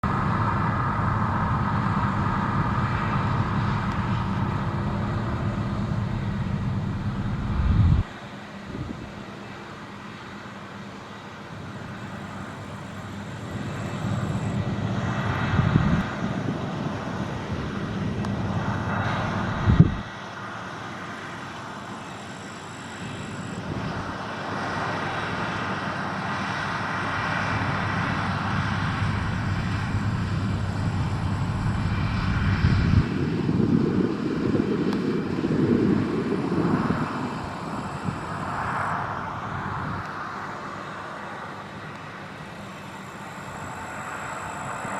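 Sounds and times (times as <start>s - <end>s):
combine harvester droning: 0.0s - 44.9s.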